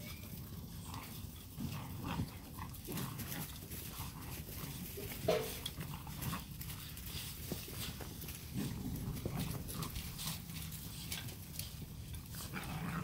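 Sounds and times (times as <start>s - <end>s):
puppies growling and scuffling: 0.0s - 13.0s.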